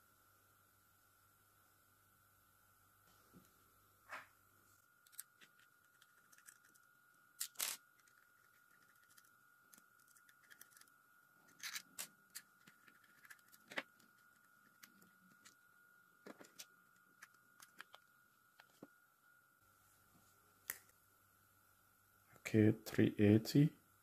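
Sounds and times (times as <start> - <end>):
faint steady whine: 0.0 - 24.0.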